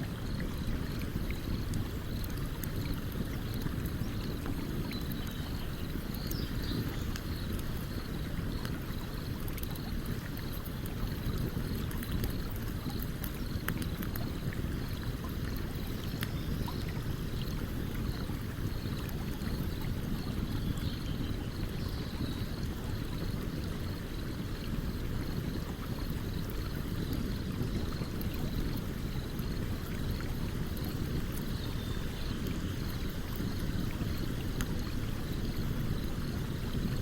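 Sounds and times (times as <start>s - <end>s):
campfire crackles: 0.0s - 37.0s.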